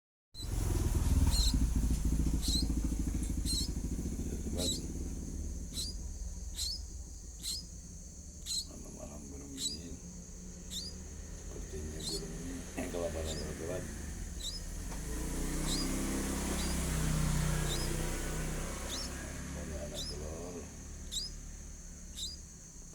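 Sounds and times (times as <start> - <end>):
low pulsing rumble: 0.4 - 22.8
chicks chirping: 0.4 - 22.9
steady high hiss: 0.4 - 22.9.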